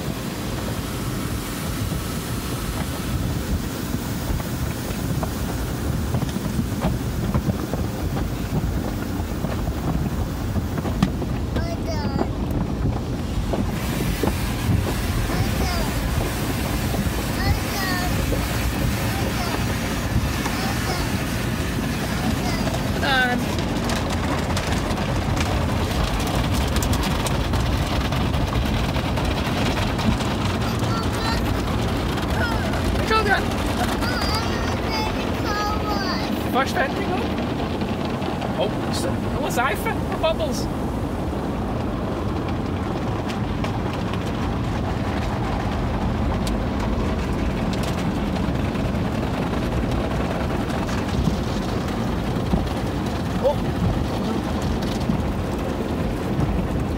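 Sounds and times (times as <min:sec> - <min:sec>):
water spraying on car body: 0:00.0 - 0:56.9.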